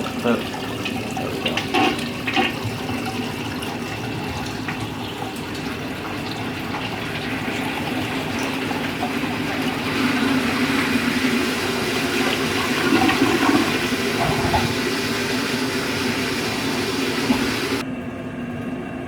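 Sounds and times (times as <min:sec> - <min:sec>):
toilet tank refilling: 0:00.0 - 0:18.8.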